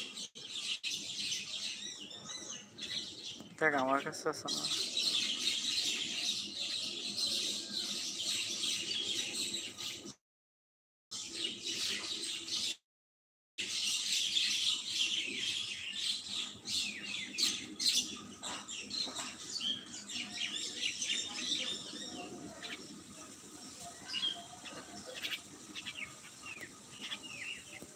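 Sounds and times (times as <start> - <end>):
small birds chirping: 0.0 - 10.2, 11.1 - 12.8, 13.6 - 27.9.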